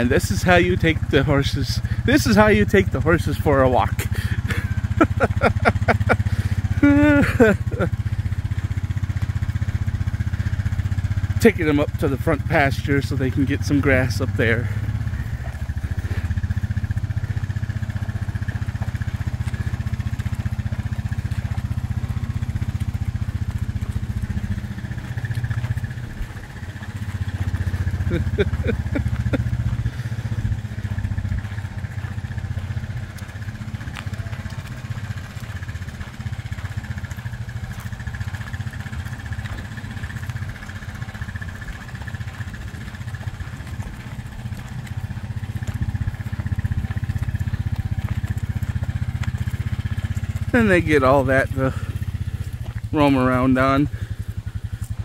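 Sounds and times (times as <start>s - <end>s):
atv engine rumbling: 0.0s - 55.0s.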